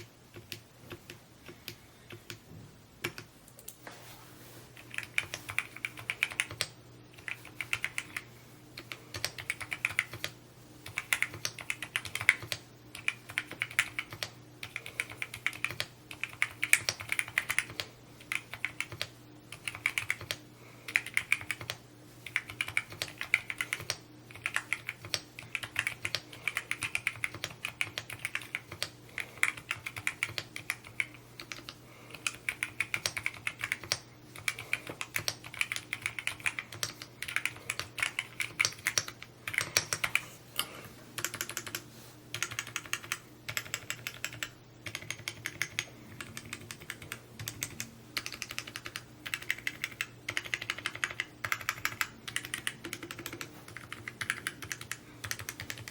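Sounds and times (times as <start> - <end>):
mechanical keyboard typing: 0.0 - 2.4, 4.8 - 55.9.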